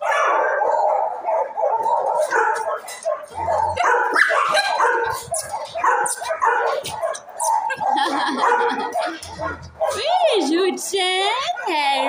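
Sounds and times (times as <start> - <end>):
dogs barking: 0.0 - 10.6, 11.2 - 12.0.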